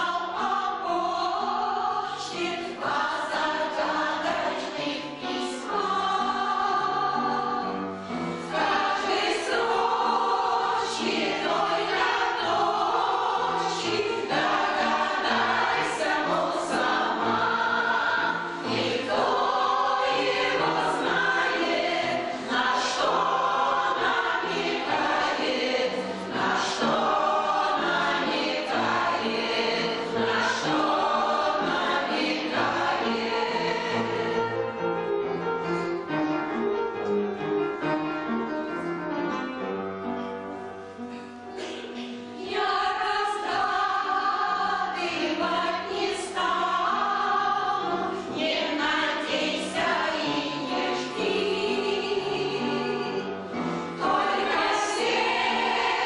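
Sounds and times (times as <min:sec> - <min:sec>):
choir singing with accompaniment: 0:00.0 - 0:36.1, 0:39.4 - 0:56.0.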